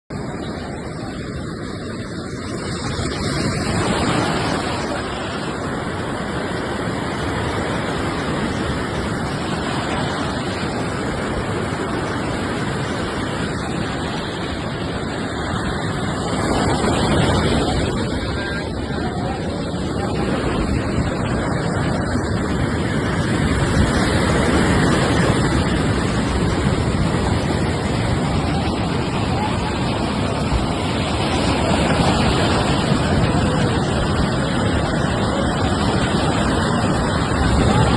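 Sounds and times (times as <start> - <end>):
surf breaking on beach: 0.1 - 37.9.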